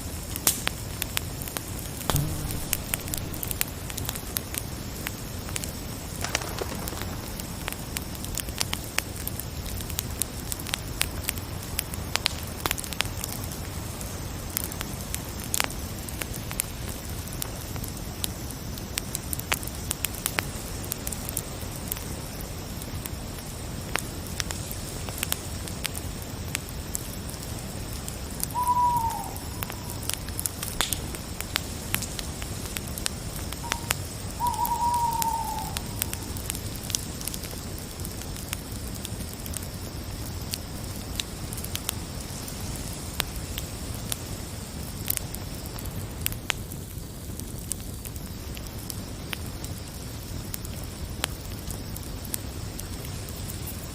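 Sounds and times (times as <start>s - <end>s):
wood fire crackling and popping: 0.0s - 53.9s
crickets chirring: 1.0s - 53.9s.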